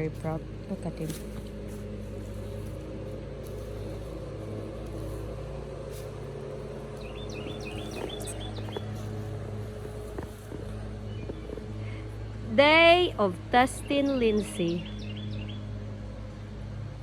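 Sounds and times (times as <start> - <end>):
songbird chirping: 0.0 - 16.5
low motor hum: 0.0 - 17.0.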